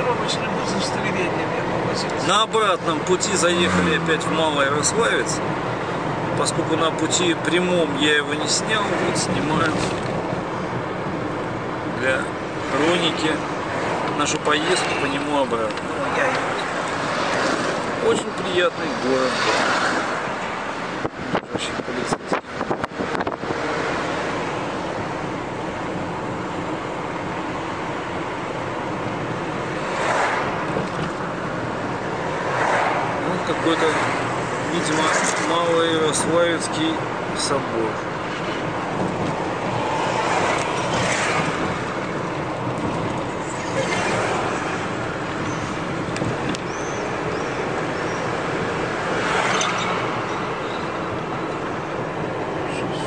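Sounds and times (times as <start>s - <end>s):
car road and engine noise: 0.0s - 53.0s.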